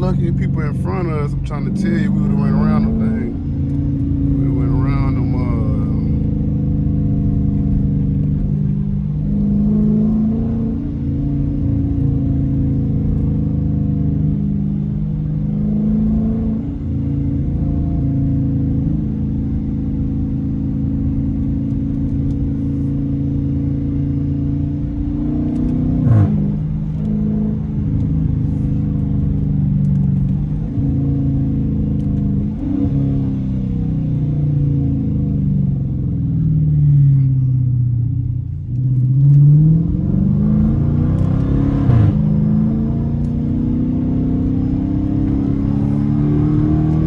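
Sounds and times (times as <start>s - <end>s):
car engine deep drone: 0.0s - 47.0s.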